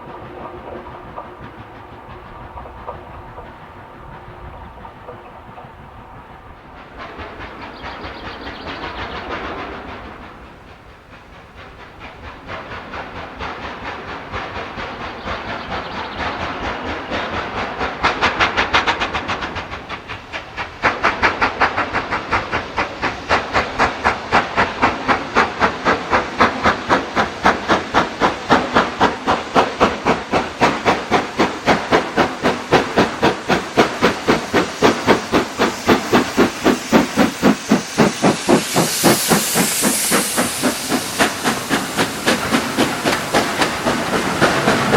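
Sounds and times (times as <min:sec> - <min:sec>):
steam hiss: 0:00.0 - 0:44.9
steam locomotive chuffing: 0:00.0 - 0:44.9.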